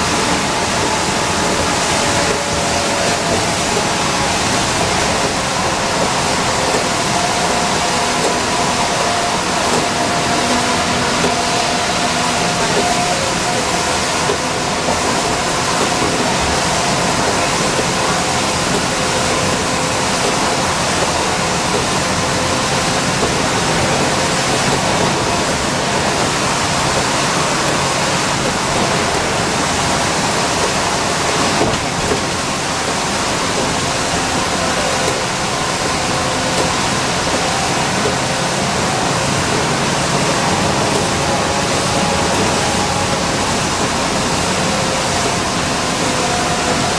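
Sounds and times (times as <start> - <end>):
bus engine running: 0.0 - 46.9
tyres on wet road: 0.0 - 46.9.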